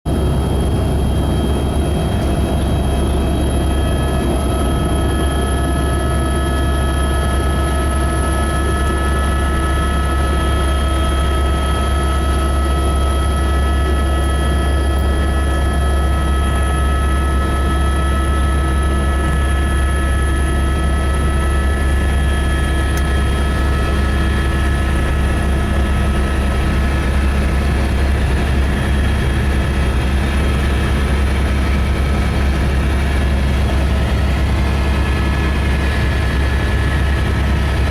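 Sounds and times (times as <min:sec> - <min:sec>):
helicopter rotor drone: 0:00.1 - 0:37.9
turbine whine: 0:00.1 - 0:37.9.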